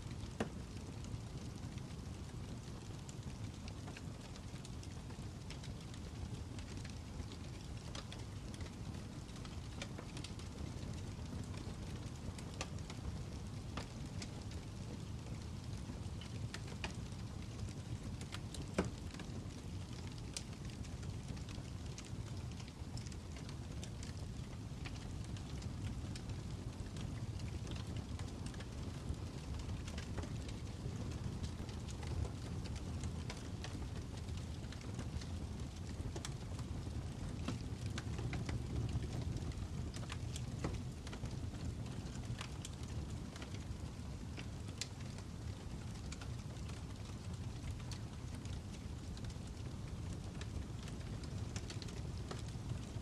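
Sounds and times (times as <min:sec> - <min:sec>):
fire crackling and popping: 0:00.1 - 0:53.0.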